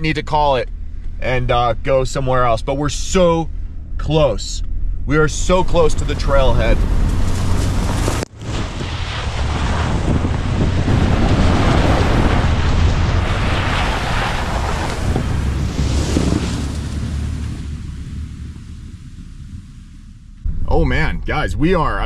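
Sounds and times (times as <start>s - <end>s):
truck engine rumbling: 0.0s - 22.0s
tyres churning through snow: 1.3s - 20.4s
wind noise on microphone: 3.7s - 22.0s.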